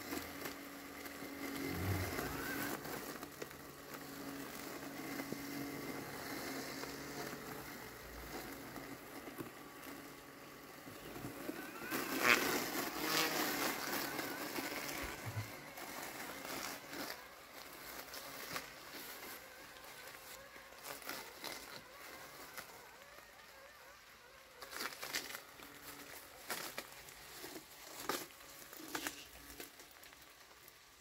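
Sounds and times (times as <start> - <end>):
robot mower motors humming: 0.0 - 31.0
weeds rustling and cutting: 0.0 - 31.0.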